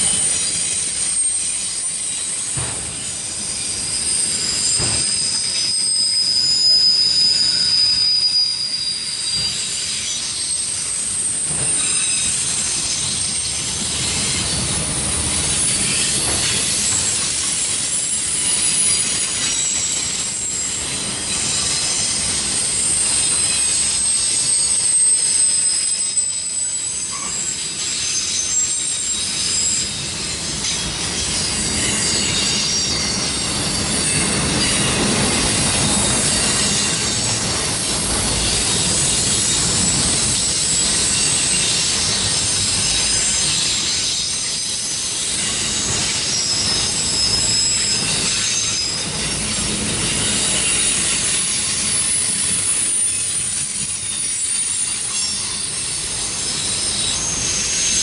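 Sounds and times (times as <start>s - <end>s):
freight train wheels rolling on rail: 0.0s - 58.0s
high-pitched wheel squeal: 0.0s - 58.0s.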